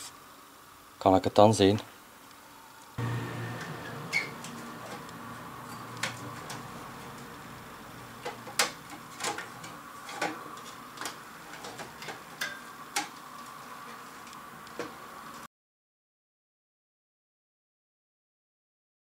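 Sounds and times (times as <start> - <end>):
faint steady hum: 0.0 - 15.5.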